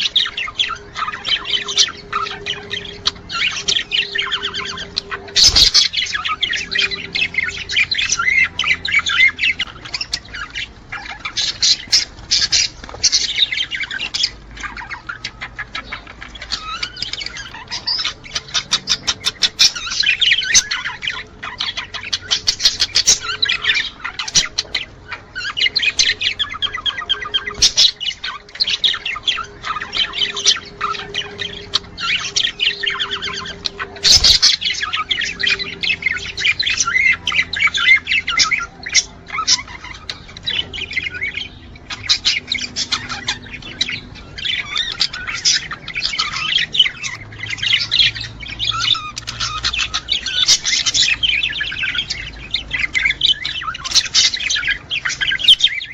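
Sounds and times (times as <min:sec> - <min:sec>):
budgerigars chattering and warbling: 0:00.0 - 0:55.9.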